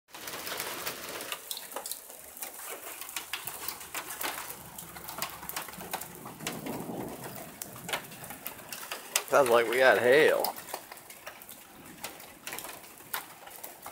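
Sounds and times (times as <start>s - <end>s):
hail striking vehicle roof: 0.1s - 13.9s
rain hiss: 0.1s - 13.9s.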